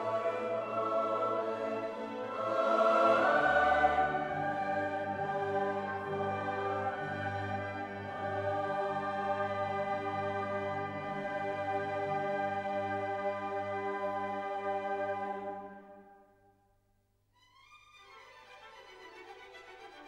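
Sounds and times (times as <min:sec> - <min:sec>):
background music with held notes: 0:00.0 - 0:16.3.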